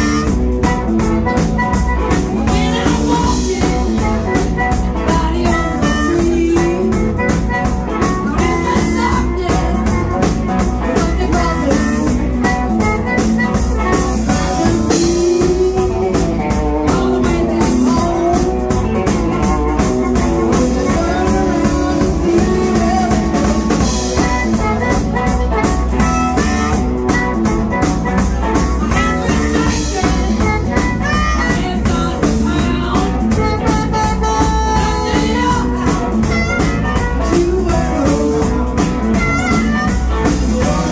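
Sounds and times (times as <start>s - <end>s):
drum kit: 0.0s - 40.9s
electric bass: 0.0s - 40.9s
electric guitar: 0.0s - 40.9s
harmonica: 0.0s - 40.9s.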